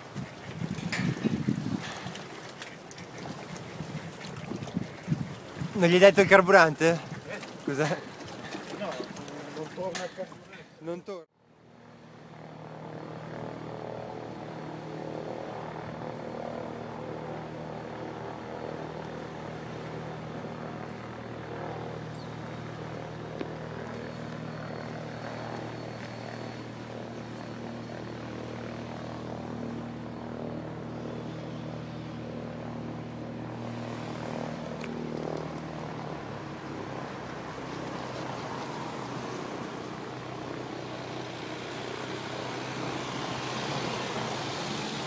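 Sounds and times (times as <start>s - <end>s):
light aircraft engine and propeller: 0.0s - 45.0s.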